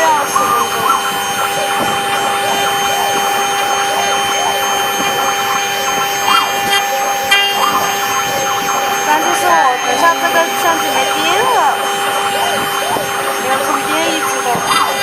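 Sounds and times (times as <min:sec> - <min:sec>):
spindle whining: 0:00.0 - 0:15.0.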